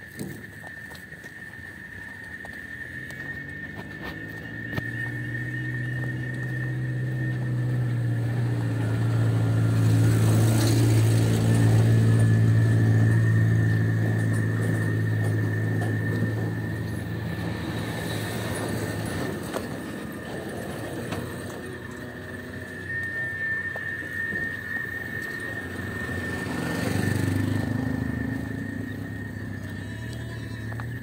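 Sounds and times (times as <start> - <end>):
vehicle engine passing: 2.9 - 31.0.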